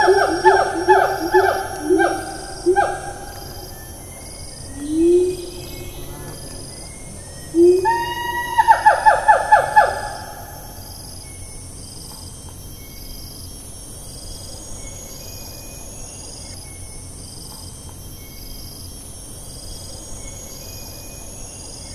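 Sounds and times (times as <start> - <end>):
insects buzzing whine: 0.0 - 21.9
low steady hiss: 0.0 - 21.9.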